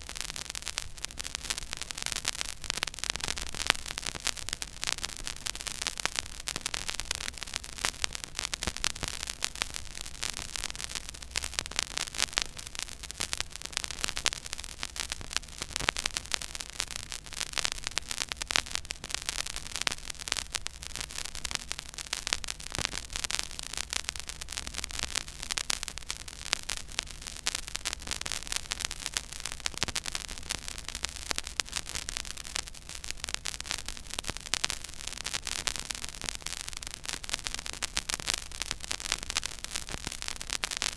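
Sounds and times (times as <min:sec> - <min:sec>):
vinyl crackle and pops: 0:00.0 - 0:40.9.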